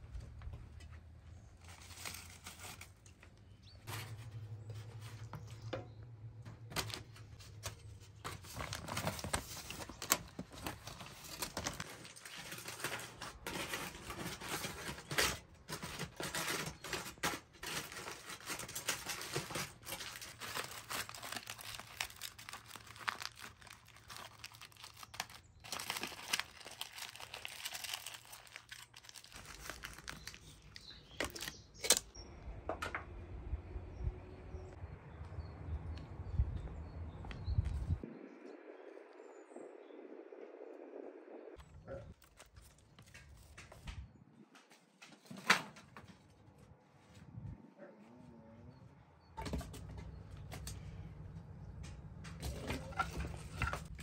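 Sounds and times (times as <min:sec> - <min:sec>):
crackling and rustling: 0:00.0 - 0:32.1, 0:41.4 - 0:48.0, 0:49.4 - 0:54.0.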